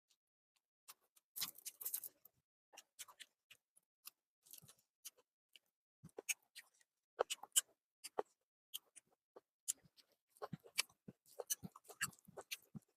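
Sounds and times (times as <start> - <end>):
wet chewing and mouth sounds: 0.9 - 12.9.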